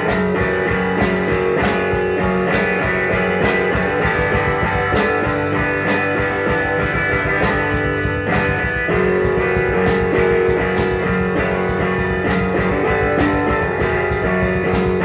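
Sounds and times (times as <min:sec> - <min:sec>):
drum kit beat: 0:00.0 - 0:15.0
electric guitar chords: 0:00.0 - 0:15.0.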